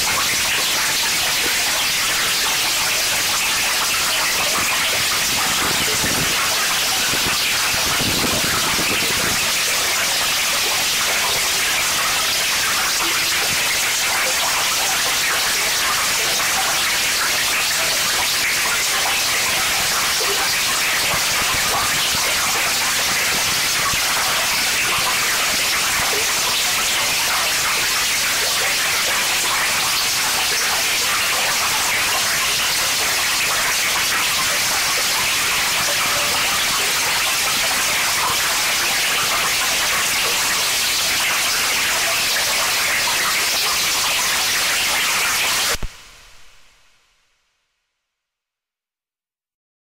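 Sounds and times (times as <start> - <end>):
harsh noise music static hiss: 0.0 - 47.0.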